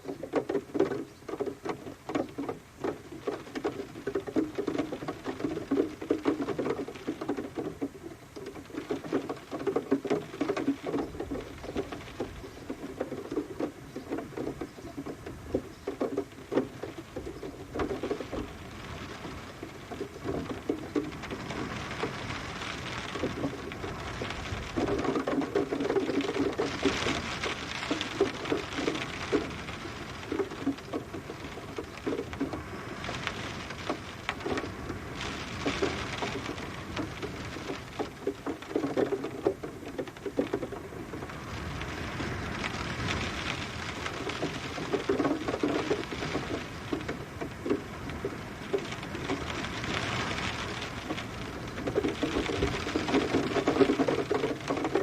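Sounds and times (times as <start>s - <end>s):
rain pattering on hard surface: 0.0s - 55.0s.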